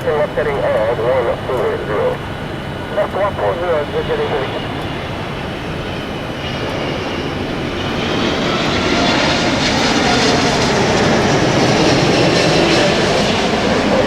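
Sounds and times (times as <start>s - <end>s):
jet engines rumbling and whining: 0.0s - 14.0s.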